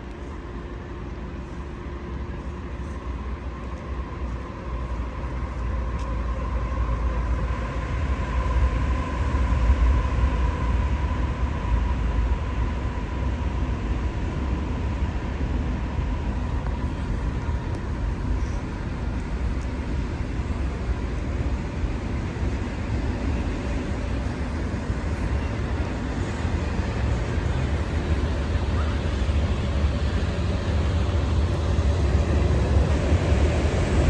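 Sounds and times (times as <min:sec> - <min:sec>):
fire engine engine running: 0:00.0 - 0:34.0.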